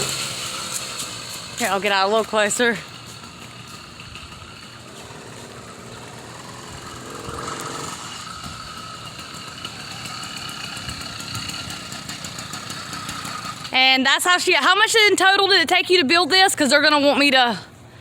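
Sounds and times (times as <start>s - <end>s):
small two-stroke engine whining: 0.0s - 17.1s.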